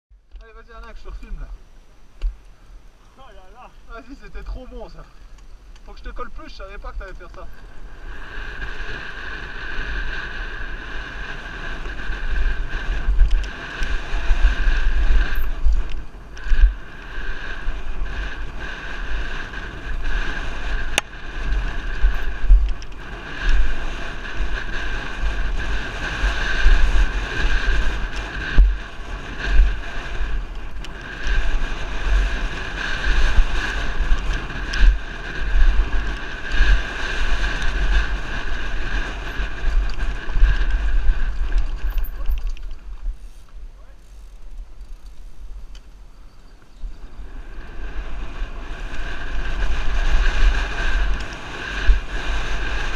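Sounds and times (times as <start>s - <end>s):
bike rattling on dirt trail: 0.1s - 52.9s
wind buffeting microphone: 0.3s - 52.9s.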